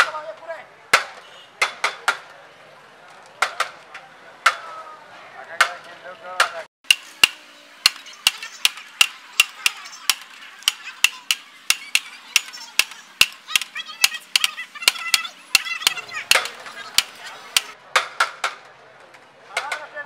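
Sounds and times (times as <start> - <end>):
crowd chatter: 0.0 - 20.0.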